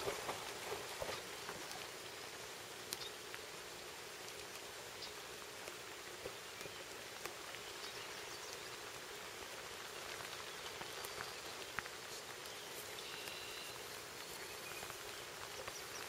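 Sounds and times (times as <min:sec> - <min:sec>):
light rain on pond water: 0:00.0 - 0:16.0.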